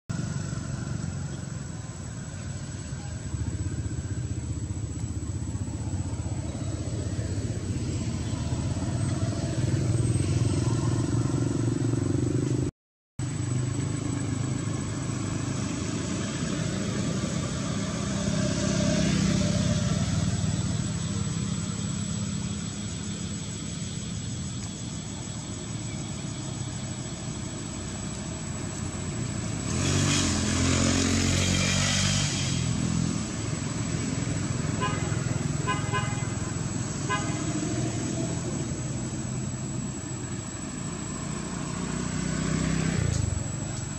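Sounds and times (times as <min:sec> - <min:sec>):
road traffic engines: 0:00.1 - 0:43.9.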